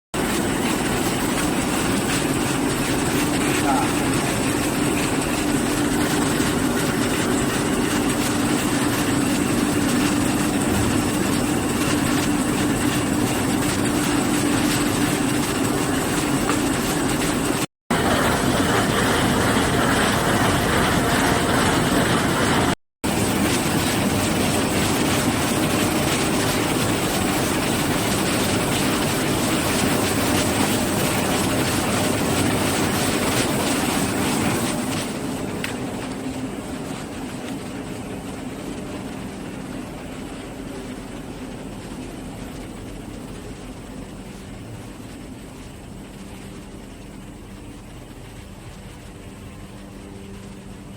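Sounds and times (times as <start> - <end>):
steady machine hum: 0.2 - 50.9.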